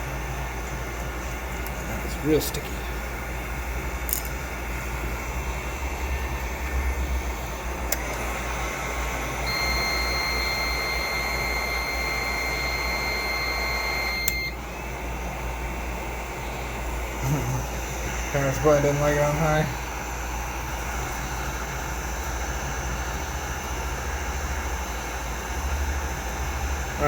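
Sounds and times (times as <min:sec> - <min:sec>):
thin high whine: 0:00.6 - 0:27.0.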